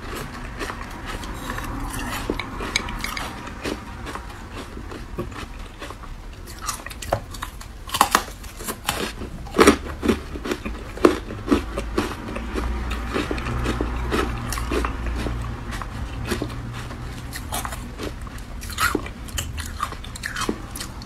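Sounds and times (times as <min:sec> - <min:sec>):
soft chewing: 0:00.0 - 0:21.0.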